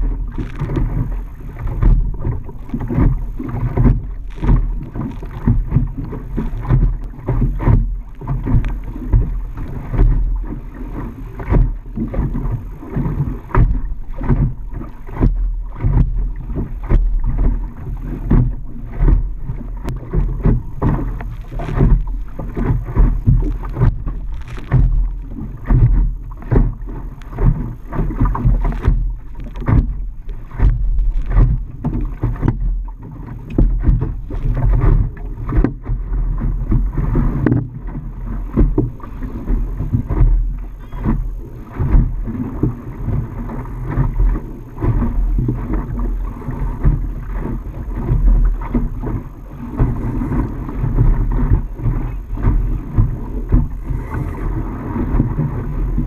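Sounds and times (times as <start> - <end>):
low rumbles: 0.0 - 56.0
water slapping hull: 0.0 - 56.0
wind buffeting microphone: 0.0 - 56.0.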